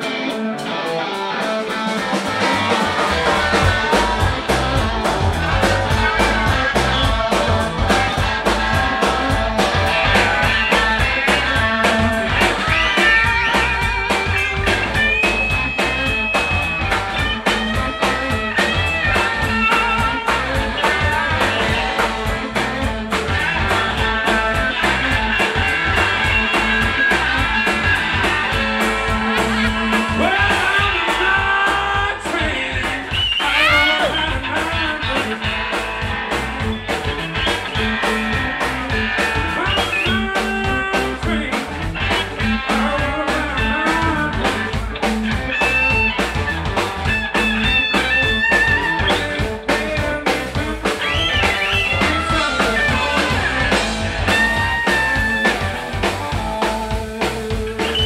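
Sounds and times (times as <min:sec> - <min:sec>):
bass line: 0:00.0 - 0:58.0
electric blues guitar lead: 0:00.0 - 0:58.0
steady drum beat: 0:00.0 - 0:58.0.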